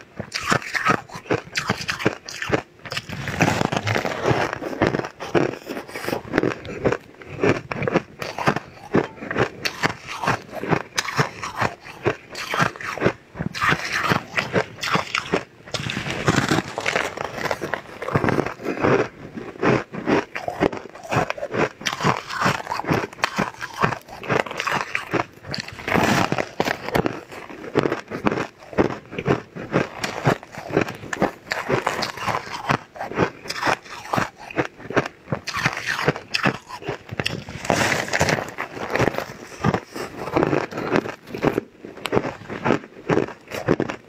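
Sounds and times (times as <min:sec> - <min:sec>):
person chewing crunchy cake: 0:00.0 - 0:44.0.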